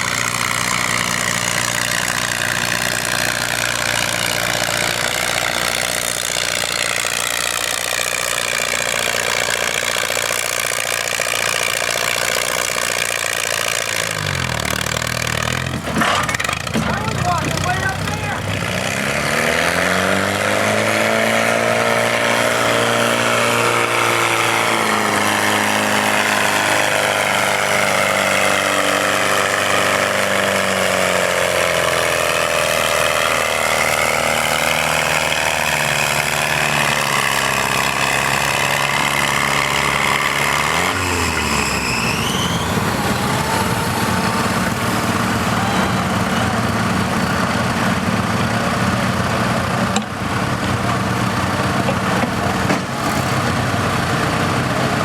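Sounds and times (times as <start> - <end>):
tractor engine lugging and revving: 0.0 - 55.0.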